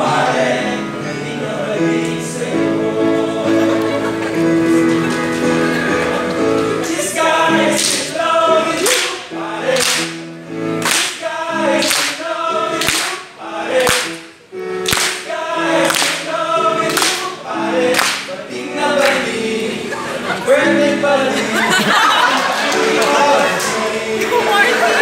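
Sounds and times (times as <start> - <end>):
men singing a cappella in harmony: 0.0 - 4.8, 6.7 - 14.3, 15.2 - 25.0.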